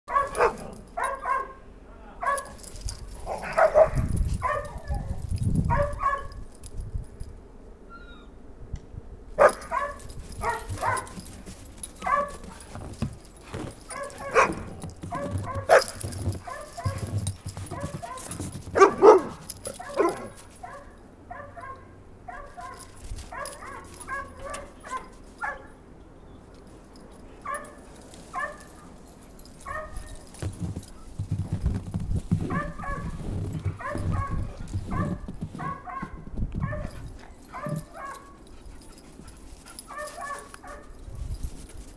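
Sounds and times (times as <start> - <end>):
dogs barking and yipping: 0.1 - 1.6, 2.2 - 6.5, 9.4 - 31.1, 32.3 - 41.2.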